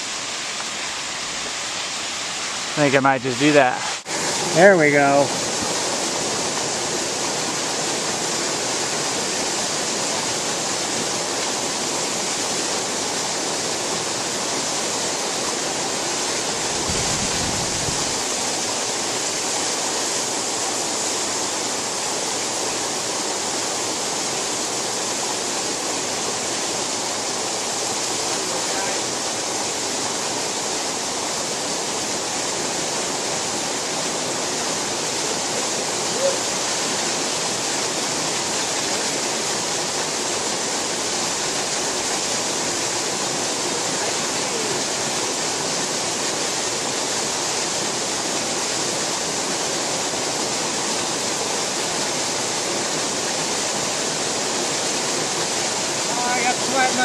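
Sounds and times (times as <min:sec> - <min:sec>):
waterfall rushing onto rocks: 0:00.0 - 0:57.0.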